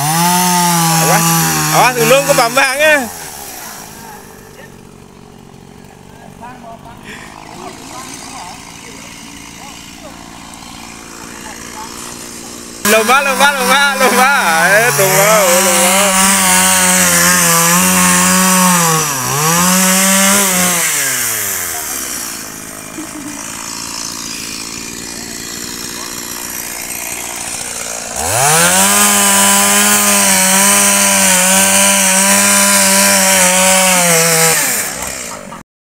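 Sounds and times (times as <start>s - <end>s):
chainsaw revving: 0.0s - 35.6s.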